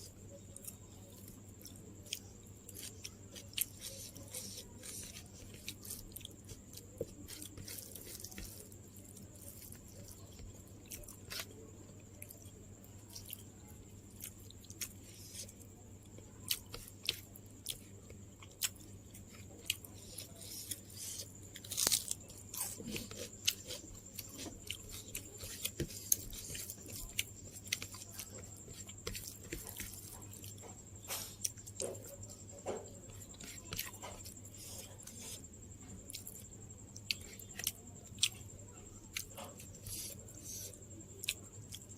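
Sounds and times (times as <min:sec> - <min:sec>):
chewing and crunching food: 0:00.0 - 0:41.9.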